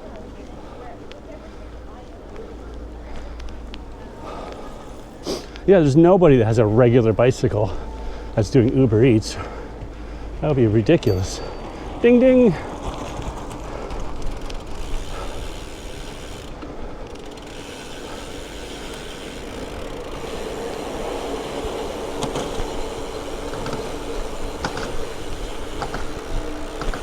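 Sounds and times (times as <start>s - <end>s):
steady low hum: 0.0s - 12.0s, 12.6s - 27.0s
bicycle drivetrain clicking and rattling: 0.0s - 27.0s
road noise: 0.0s - 27.0s.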